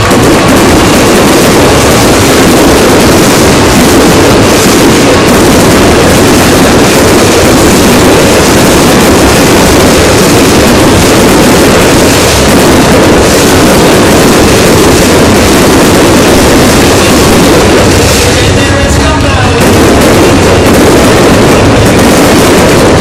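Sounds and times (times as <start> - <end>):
distorted fireworks roar: 0.0 - 23.0.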